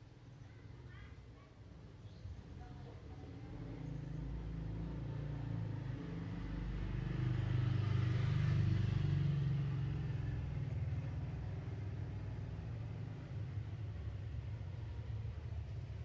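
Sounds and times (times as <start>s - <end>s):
low engine rumble: 2.1s - 16.0s.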